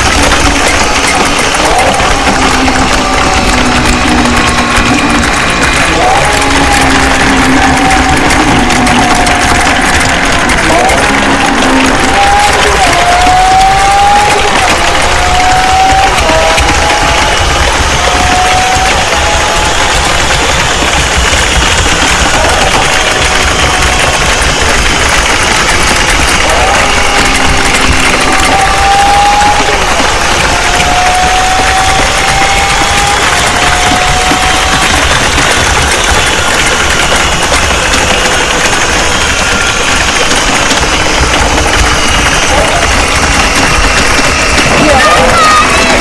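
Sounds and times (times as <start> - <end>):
engine rumble: 0.0 - 46.0.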